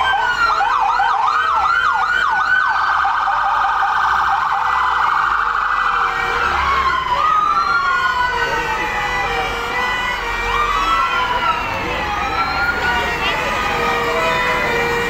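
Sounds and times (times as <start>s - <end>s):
siren yelping and warbling: 0.0s - 15.0s.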